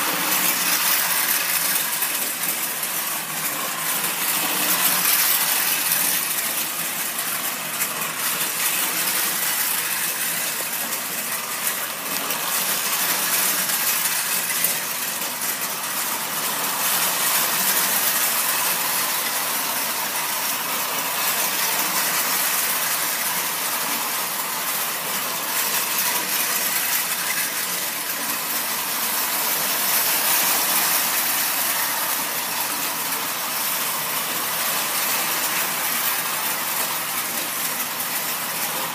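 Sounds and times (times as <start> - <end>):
small electric motors whirring: 0.0 - 38.9
toy train wheels clattering on track: 0.0 - 38.9.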